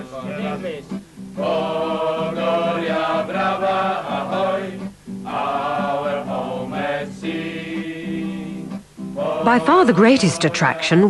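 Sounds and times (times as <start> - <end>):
group singing in chorus: 0.0 - 11.0.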